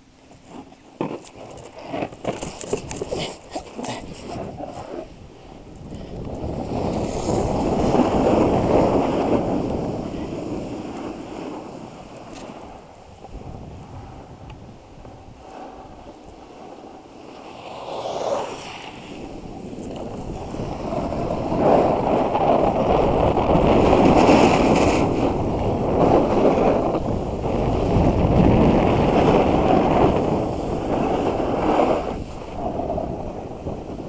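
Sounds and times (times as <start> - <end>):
snow scraping under board: 0.3 - 14.4, 15.2 - 34.0
wind rushing over microphone: 1.4 - 34.0.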